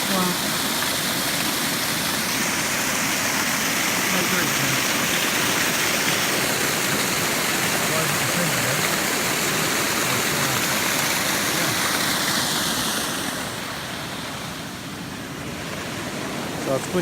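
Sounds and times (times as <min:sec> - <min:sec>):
water rushing over waterfall: 0:00.0 - 0:17.0.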